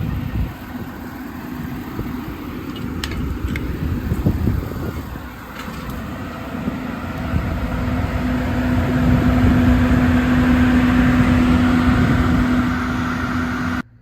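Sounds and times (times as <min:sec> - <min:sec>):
engine rumbling: 0:00.0 - 0:14.0
steady hum: 0:00.0 - 0:14.0.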